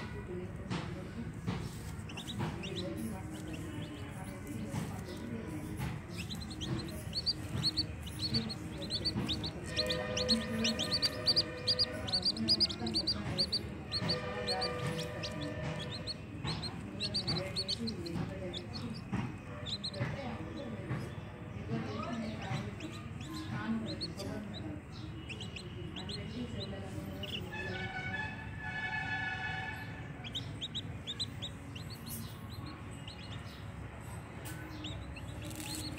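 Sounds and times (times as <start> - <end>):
chicks peeping: 0.6 - 35.9.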